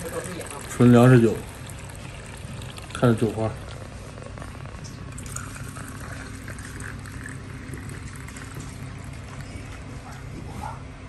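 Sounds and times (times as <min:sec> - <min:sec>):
liquor pouring into plastic cups: 0:00.0 - 0:10.0
low background hum: 0:00.0 - 0:11.0.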